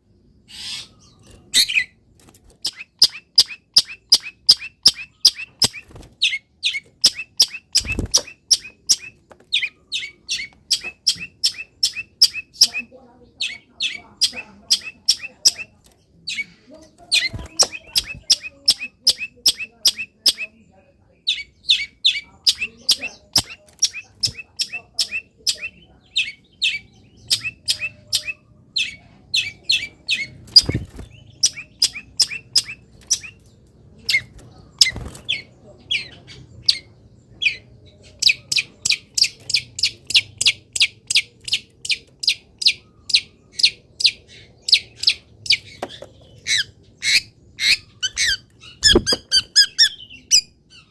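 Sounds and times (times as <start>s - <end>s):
bird singing sharp repeated notes: 2.6s - 16.4s, 17.1s - 20.6s, 21.2s - 50.9s.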